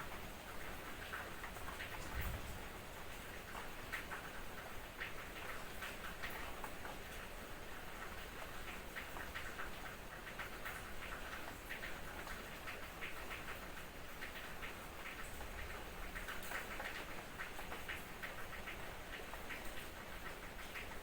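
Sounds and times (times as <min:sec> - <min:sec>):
light drizzle hissing: 0:00.0 - 0:21.0
small drips ticking: 0:00.1 - 0:21.0.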